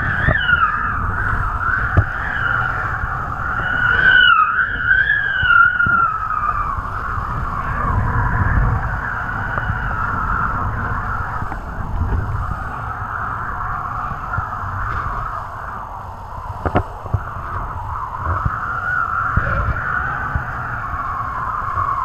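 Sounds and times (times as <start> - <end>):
low wind rumble on microphone: 0.0 - 22.0
wind whistling wavering tone: 0.0 - 22.0.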